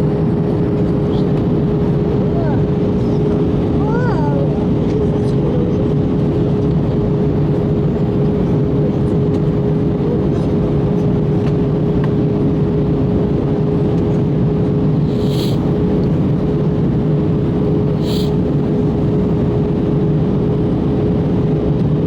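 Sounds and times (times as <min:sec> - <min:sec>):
airflow rush in aircraft cabin: 0:00.0 - 0:22.0
jet engine hum: 0:00.0 - 0:22.0.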